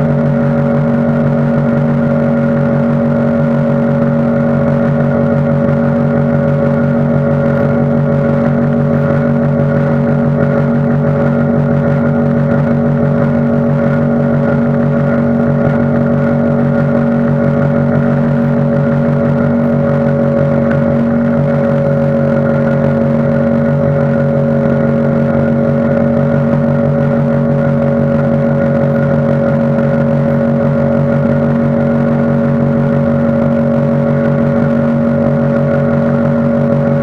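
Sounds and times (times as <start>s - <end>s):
outboard motor running: 0.0s - 37.0s.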